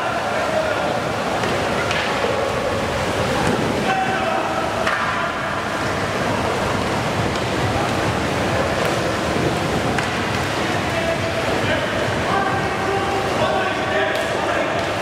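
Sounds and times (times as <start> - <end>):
indoor hall noise: 0.0 - 15.0
paddles splashing water: 0.0 - 15.0.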